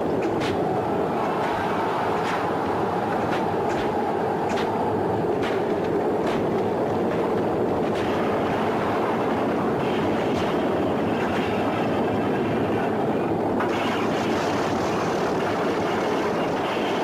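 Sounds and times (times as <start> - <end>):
chariot wheels rumbling: 0.0 - 17.0
sharp cracks: 0.0 - 17.0.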